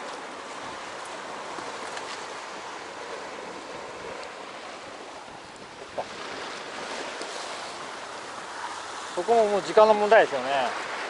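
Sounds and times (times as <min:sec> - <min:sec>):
sea surf on rocky shore: 0:00.0 - 0:11.0.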